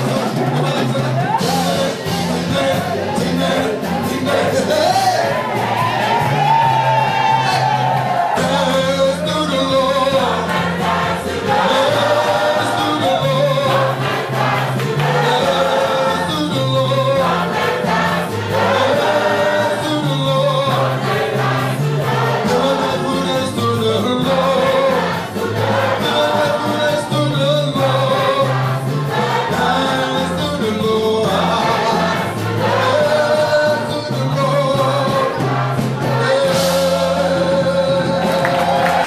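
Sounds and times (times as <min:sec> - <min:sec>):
bass line: 0:00.0 - 0:39.0
drums: 0:00.0 - 0:39.0
group of voices singing: 0:00.0 - 0:39.0.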